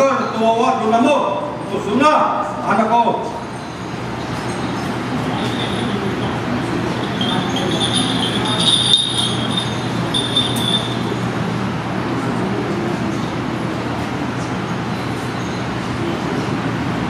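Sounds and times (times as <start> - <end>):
crowd ambience in large hall: 0.0 - 17.0
sound system hum: 1.1 - 16.0.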